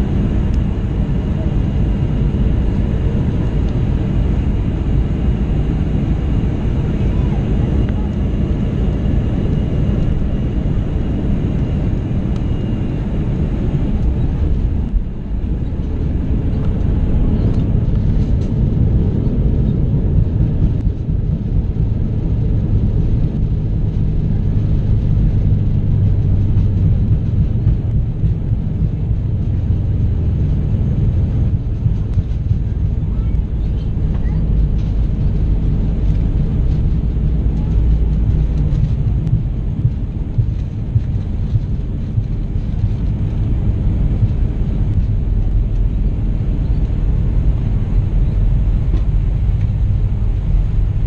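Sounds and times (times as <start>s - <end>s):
airplane engines rumbling: 0.0s - 51.0s
low drone: 0.0s - 51.0s
rushing air in cabin: 0.0s - 51.0s.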